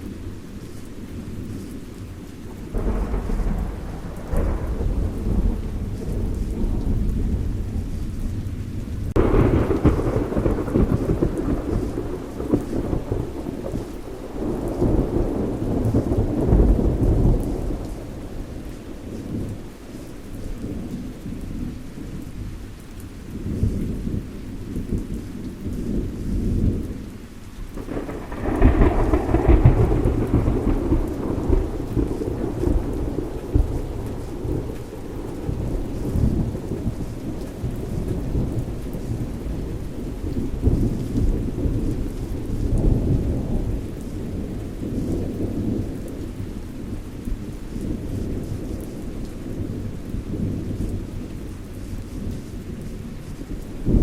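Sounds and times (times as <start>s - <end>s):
steady rain: 0.0s - 54.0s
rolling thunder: 1.2s - 22.6s, 23.4s - 54.0s.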